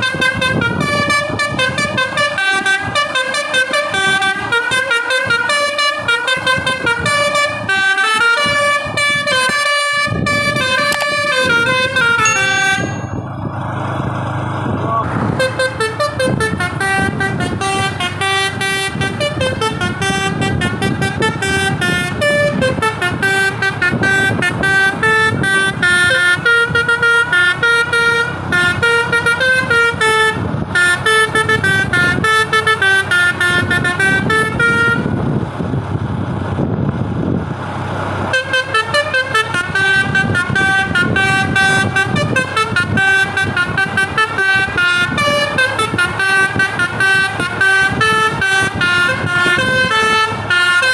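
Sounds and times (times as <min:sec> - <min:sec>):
musical bus horn playing tune: 0:00.0 - 0:13.5, 0:15.3 - 0:35.2, 0:38.3 - 0:50.9.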